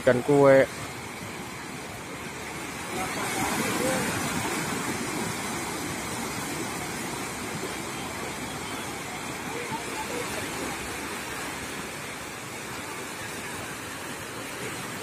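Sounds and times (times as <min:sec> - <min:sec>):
surf breaking in shallows: 0:00.0 - 0:15.0.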